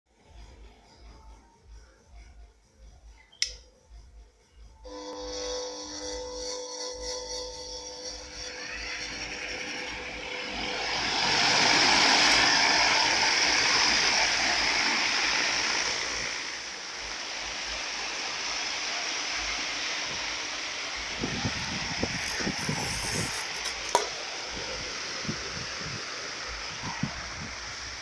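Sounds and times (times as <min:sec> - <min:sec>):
fan rushing air hiss: 0:00.2 - 0:28.0.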